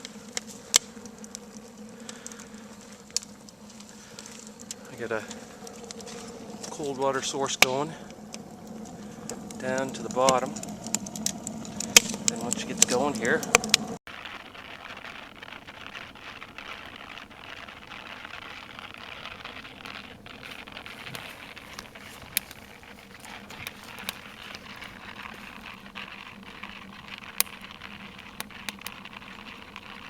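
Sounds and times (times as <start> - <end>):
stove fire rushing hiss: 0.0 - 13.2, 14.0 - 30.0
fire crackles and pops: 0.0 - 30.0.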